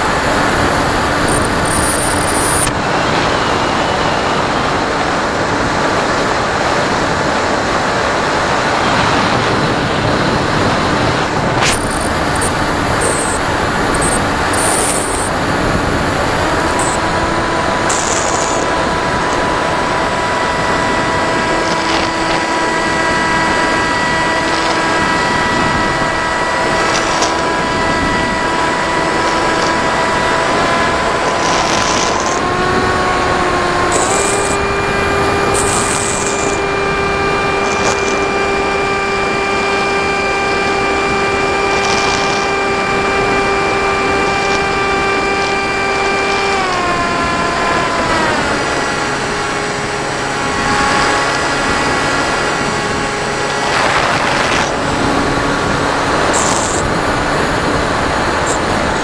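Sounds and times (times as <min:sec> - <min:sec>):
model airplane motor whine: 0:00.0 - 0:59.0
wind noise on microphone: 0:00.0 - 0:59.0.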